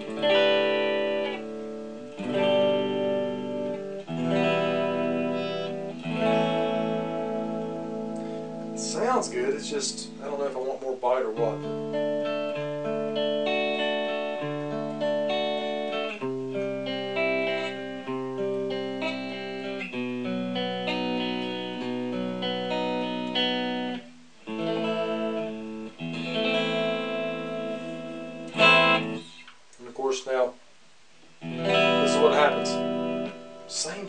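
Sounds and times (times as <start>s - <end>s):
clean electric guitar chords: 0.0s - 29.5s, 31.4s - 34.0s.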